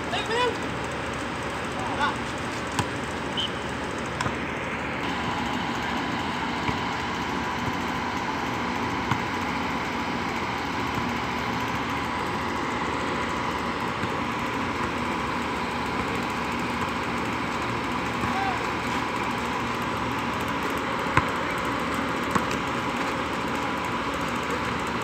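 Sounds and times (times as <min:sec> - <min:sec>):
mechanical hum with tone: 0:00.0 - 0:25.0.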